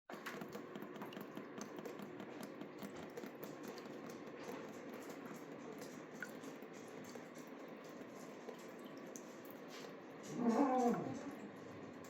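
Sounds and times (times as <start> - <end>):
water spattering and dripping: 0.1 - 12.0.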